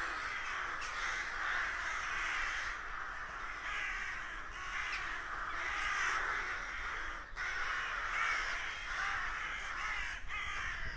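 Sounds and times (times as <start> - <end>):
crows cawing: 0.0 - 10.9.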